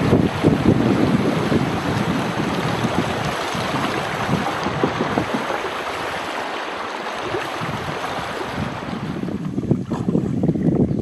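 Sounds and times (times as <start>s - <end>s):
river water flowing: 0.0s - 9.9s
wind buffeting the microphone: 0.0s - 11.0s.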